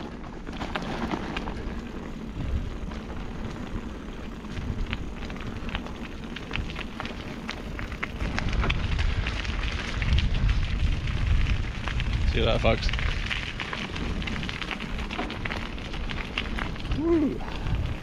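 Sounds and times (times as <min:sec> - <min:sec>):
bike tyres crunching on rough ground: 0:00.0 - 0:18.0
wind rumbling over microphone: 0:00.0 - 0:18.0.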